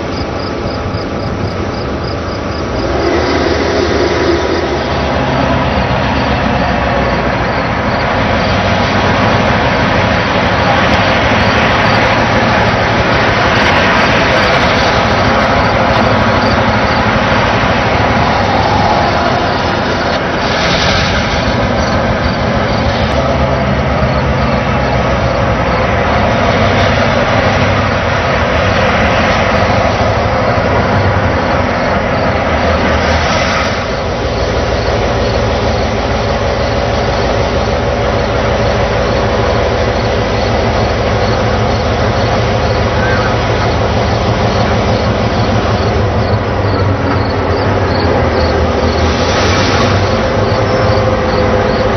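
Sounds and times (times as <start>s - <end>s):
diesel engine drone: 0.0s - 51.9s
train mechanical rumble: 0.0s - 51.9s.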